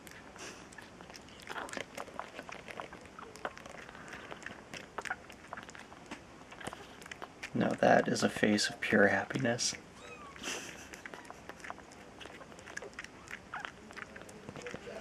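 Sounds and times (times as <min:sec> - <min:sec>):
kitten suckling on bottle: 0:00.0 - 0:15.0.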